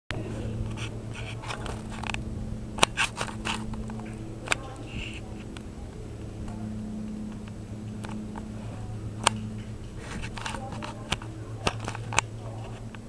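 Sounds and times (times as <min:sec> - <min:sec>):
low hum: 0:00.1 - 0:13.0
sharp clicks: 0:00.6 - 0:08.6, 0:09.2 - 0:13.0.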